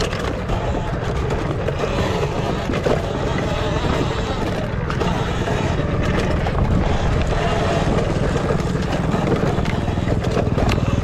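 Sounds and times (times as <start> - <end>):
dirt bike engine rumble: 0.0 - 11.0.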